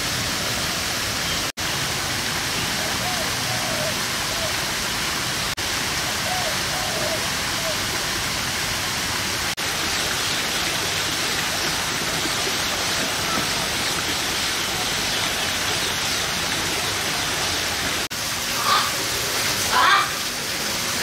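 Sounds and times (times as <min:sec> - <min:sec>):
falling water rushing: 0:00.0 - 0:21.0.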